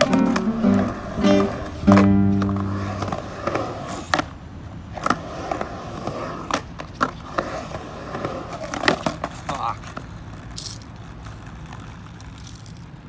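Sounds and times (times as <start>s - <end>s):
skateboard clacking on ground: 0.0s - 13.0s
skateboard wheels rolling on concrete: 0.0s - 13.0s.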